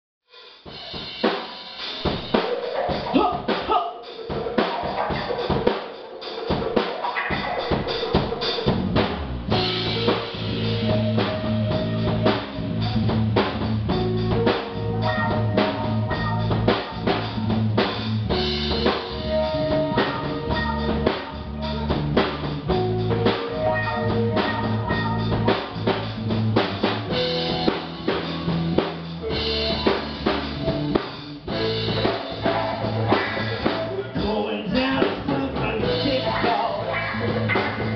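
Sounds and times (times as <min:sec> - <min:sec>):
drum kit playing: 0:00.3 - 0:37.9
guitar: 0:00.7 - 0:37.9
bass line: 0:06.6 - 0:37.9.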